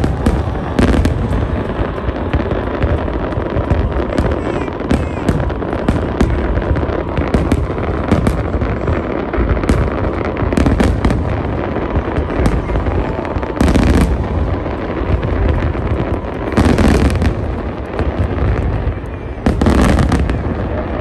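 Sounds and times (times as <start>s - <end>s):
fireworks cracks and bangs: 0.0s - 21.0s.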